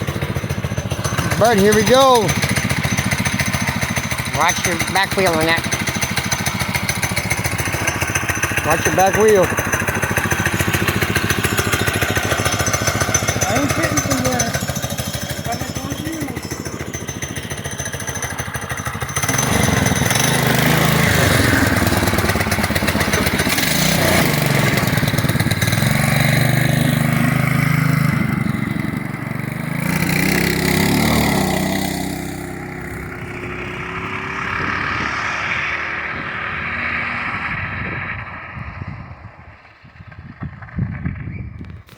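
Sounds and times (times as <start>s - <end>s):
small engine idling and revving: 0.0s - 41.9s.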